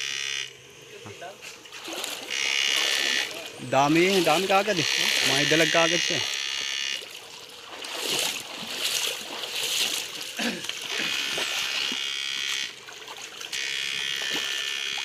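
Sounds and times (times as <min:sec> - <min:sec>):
high electric buzz: 0:00.0 - 0:07.3, 0:08.0 - 0:15.0
water splashing: 0:01.5 - 0:15.0.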